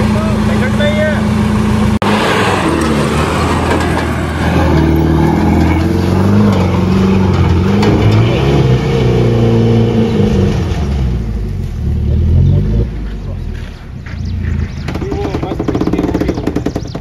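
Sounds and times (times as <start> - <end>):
car engine revving under load: 0.0 - 17.0.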